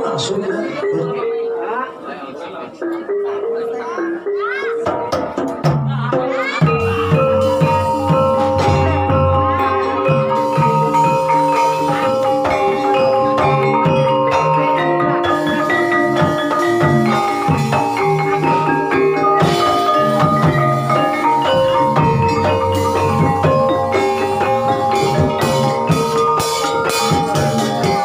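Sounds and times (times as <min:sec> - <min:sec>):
gamelan music: 0:00.0 - 0:28.0.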